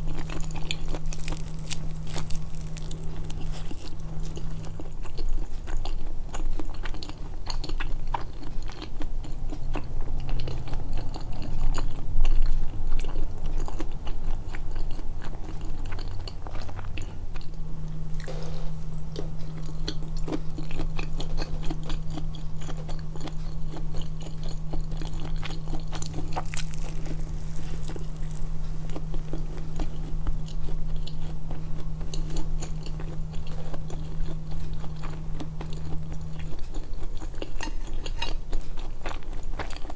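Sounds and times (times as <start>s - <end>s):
chewing and crunching food: 0.0s - 39.9s
steady low hum: 0.0s - 39.9s.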